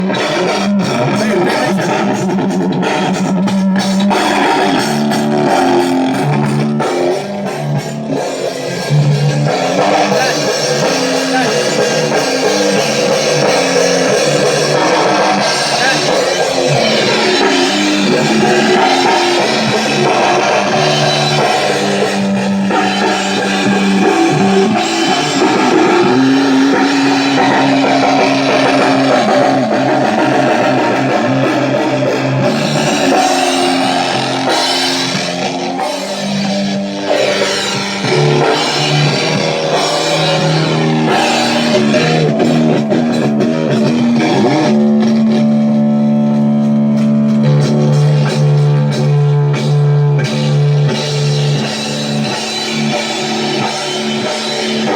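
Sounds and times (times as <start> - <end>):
rock band playing riff: 0.0 - 54.9.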